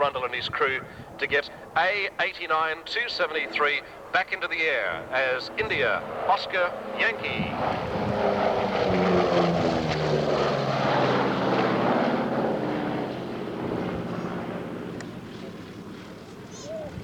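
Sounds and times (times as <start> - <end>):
propeller aircraft drone: 0.0 - 17.0.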